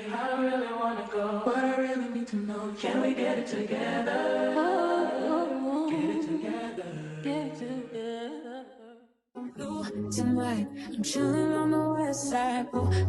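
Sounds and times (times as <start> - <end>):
song with layered sung vocals: 0.0 - 13.0.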